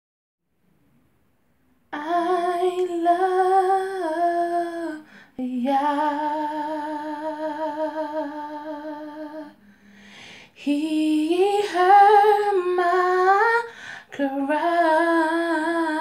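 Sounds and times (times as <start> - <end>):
woman singing unaccompanied: 1.9 - 9.6, 10.5 - 16.0.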